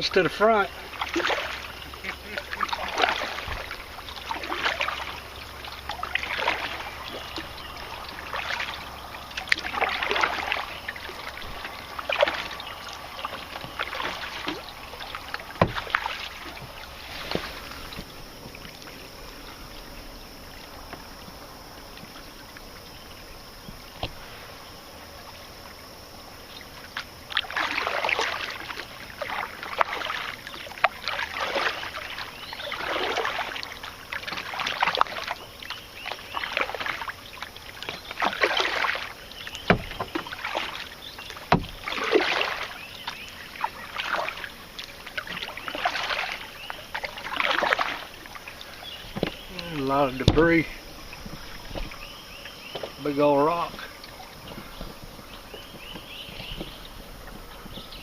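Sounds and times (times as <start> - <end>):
canoe paddle splashing water: 0.0 - 58.0.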